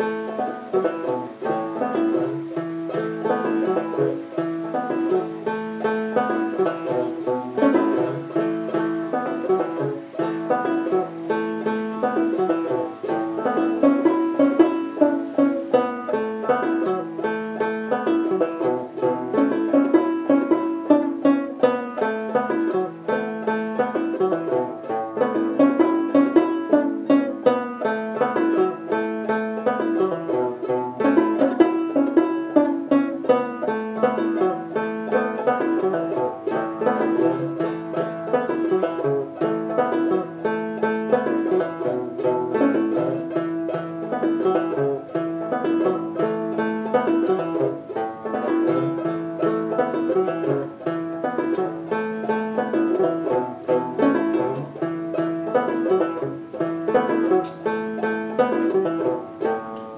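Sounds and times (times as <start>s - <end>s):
banjo plucking a tune: 0.0s - 59.9s.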